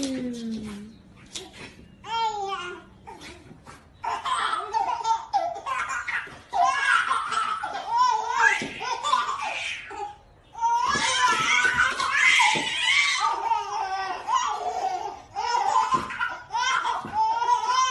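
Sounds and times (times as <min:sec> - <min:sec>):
babies laughing and giggling: 0:00.0 - 0:17.9.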